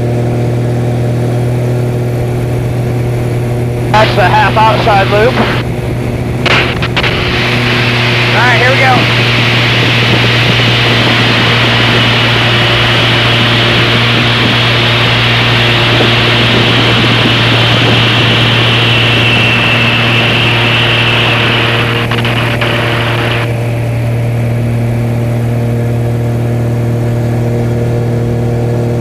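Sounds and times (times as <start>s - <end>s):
plane engine droning: 0.0s - 29.0s
wind rushing in cockpit: 0.0s - 29.0s.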